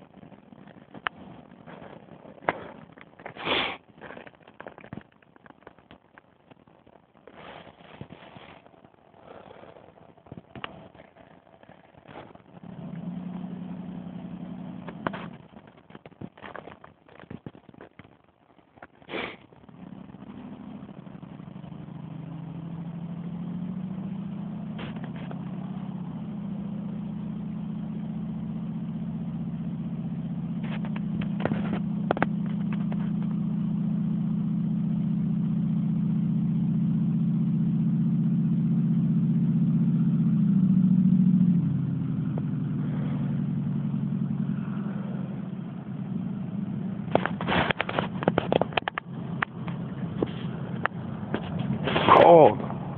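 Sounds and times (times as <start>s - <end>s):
car engine running: 0.0s - 52.9s.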